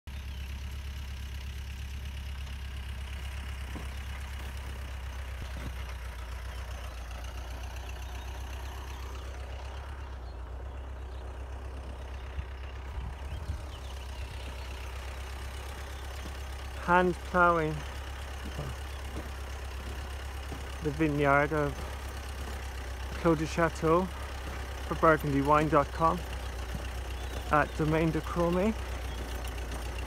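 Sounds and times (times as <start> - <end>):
tractor engine droning: 0.1 - 30.0.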